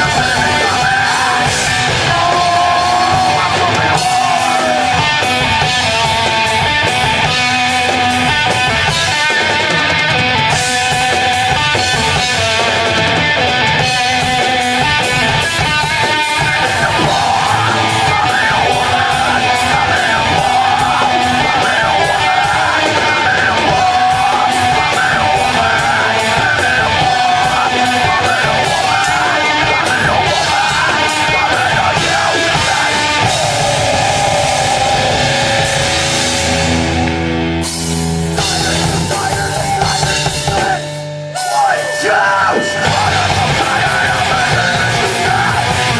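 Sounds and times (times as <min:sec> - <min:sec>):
live heavy rock band: 0:00.0 - 0:45.9
steady drum beats: 0:00.0 - 0:45.9
yelled vocals: 0:00.0 - 0:45.9.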